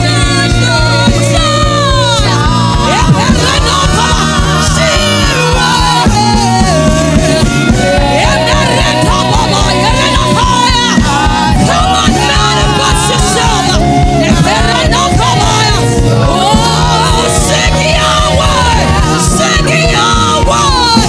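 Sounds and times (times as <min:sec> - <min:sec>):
band playing bass and drums: 0:00.0 - 0:21.0
lead voice singing: 0:00.0 - 0:21.0.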